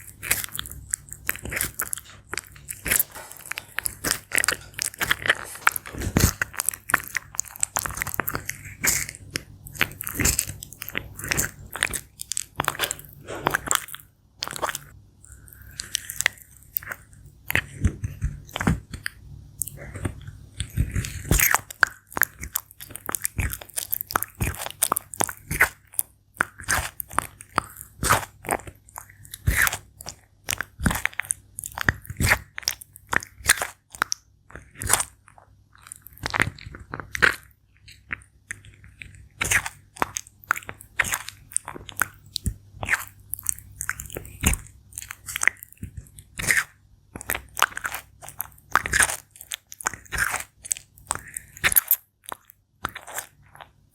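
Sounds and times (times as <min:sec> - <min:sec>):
tortoise crunching fruit: 0:00.0 - 0:53.9.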